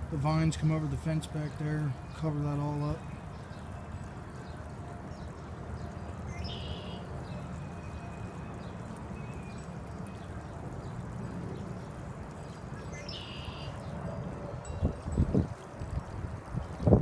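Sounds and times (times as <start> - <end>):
pond waterfall splashing: 0.0 - 17.0.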